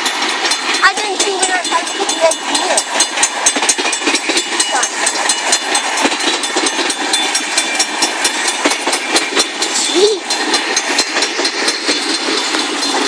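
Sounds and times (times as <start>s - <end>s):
freight train rumbling past: 0.0s - 13.0s
train wheels clicking over rail joints: 0.0s - 13.0s.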